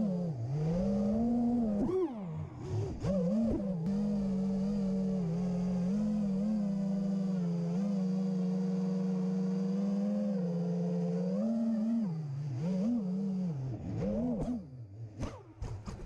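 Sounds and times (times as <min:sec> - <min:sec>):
quadcopter motors buzzing whine: 0:00.0 - 0:15.6.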